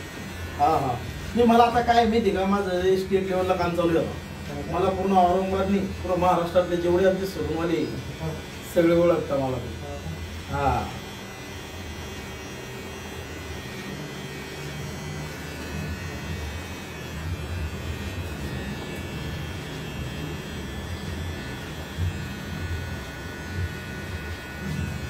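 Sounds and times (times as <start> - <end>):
electric hair clipper buzzing: 0.0 - 25.0.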